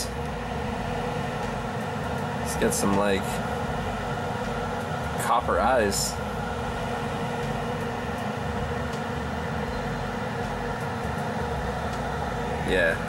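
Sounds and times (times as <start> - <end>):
mechanical hum with held tones: 0.0 - 13.0.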